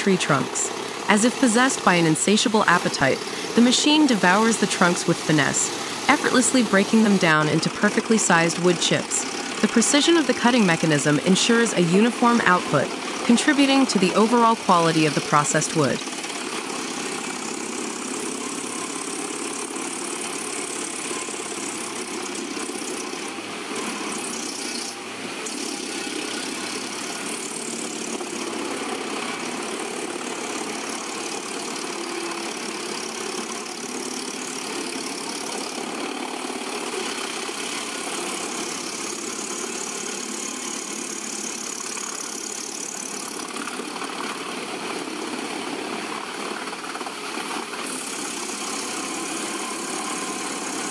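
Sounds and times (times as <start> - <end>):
wood chipper running: 0.0 - 50.9.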